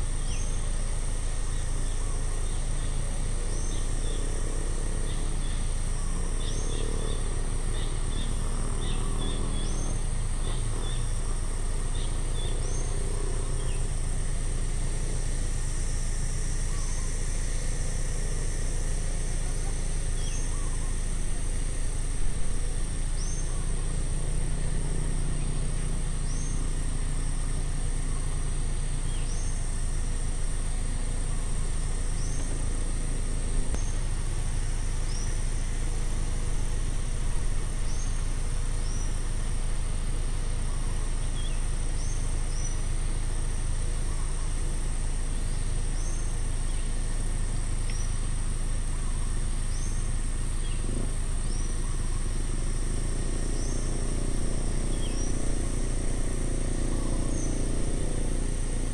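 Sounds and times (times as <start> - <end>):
high-pitched insect drone: 0.0 - 58.9.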